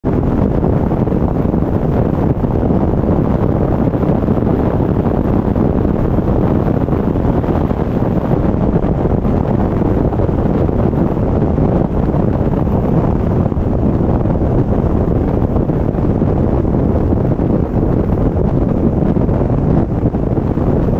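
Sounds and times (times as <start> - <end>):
wind buffeting camera: 0.0 - 20.9.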